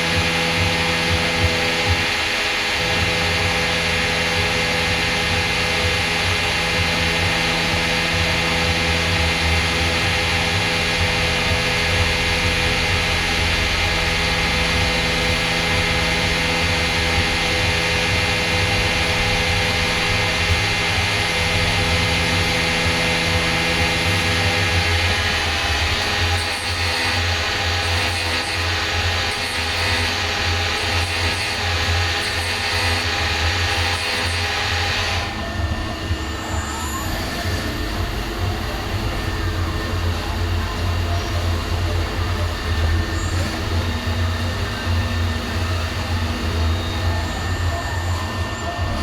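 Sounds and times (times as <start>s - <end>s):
machine humming: 0.0s - 49.0s.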